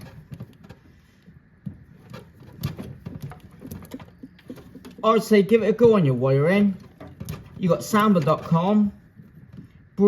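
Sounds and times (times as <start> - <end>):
wiring being handled: 0.0 - 10.0.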